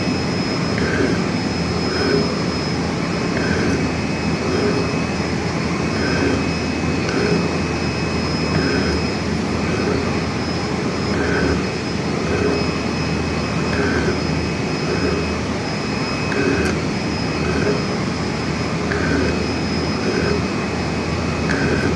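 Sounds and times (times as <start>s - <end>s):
metal lathe whine and hum: 0.0s - 21.9s.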